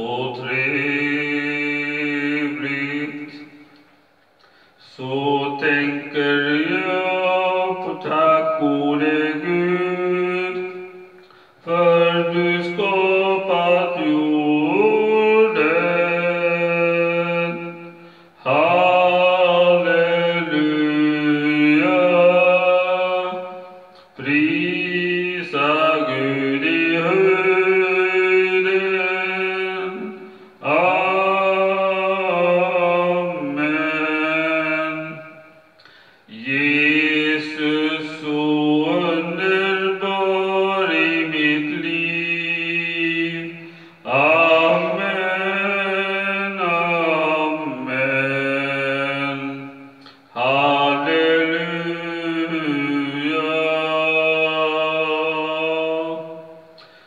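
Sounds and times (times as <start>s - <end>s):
man singing: 0.0s - 3.8s, 4.8s - 35.6s, 36.2s - 57.0s.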